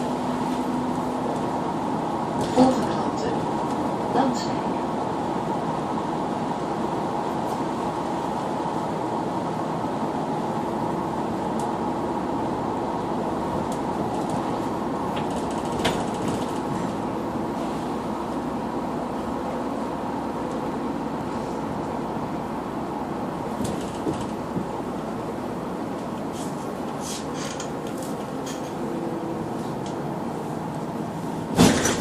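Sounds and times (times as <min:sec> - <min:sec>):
bus engine droning with whine: 0:00.0 - 0:32.0.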